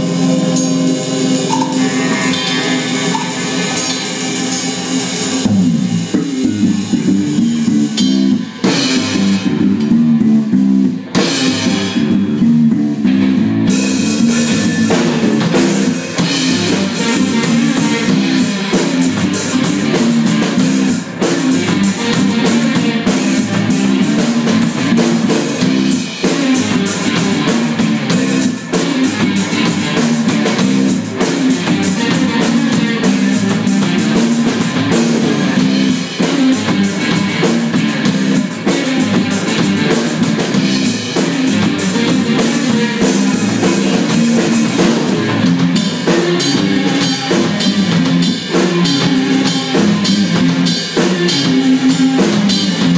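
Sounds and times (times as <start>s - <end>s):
drum kit beat: 0.0s - 52.9s
electric guitars: 0.0s - 52.9s.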